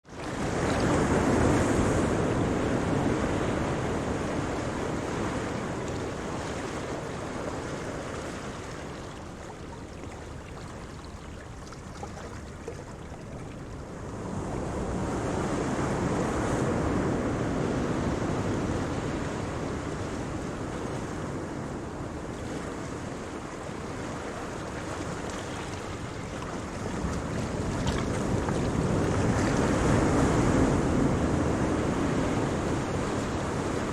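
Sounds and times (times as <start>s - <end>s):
ocean waves breaking on shore: 0.0s - 33.9s
wind noise on microphone: 0.2s - 8.9s, 13.3s - 33.9s.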